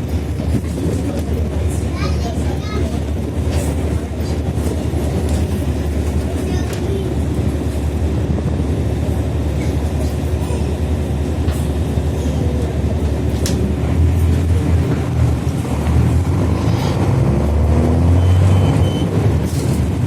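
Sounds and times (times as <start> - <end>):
bus body rattles and clicks: 0.0 - 20.0
bus diesel engine droning: 0.0 - 20.0.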